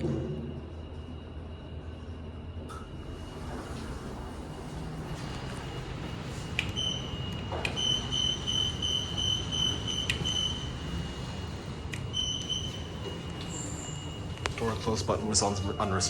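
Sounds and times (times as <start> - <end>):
low hum of lift: 0.0 - 16.0
elevator buzzer beeping: 2.7 - 16.0.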